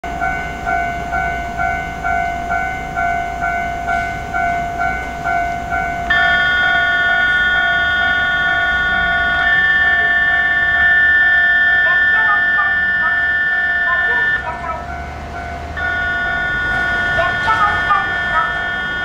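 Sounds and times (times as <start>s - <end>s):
pulsed two-note warning tone: 0.0s - 19.0s
steady chord of held tones: 0.1s - 19.0s.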